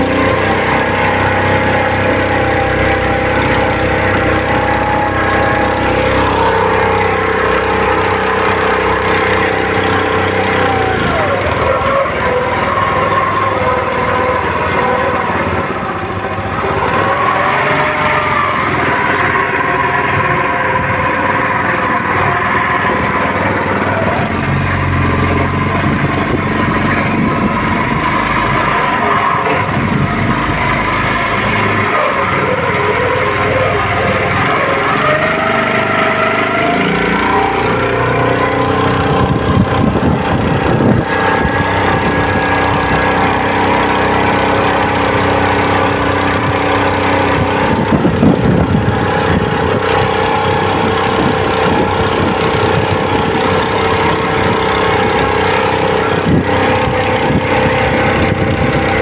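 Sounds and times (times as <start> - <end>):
small boat engine running: 0.0 - 59.0.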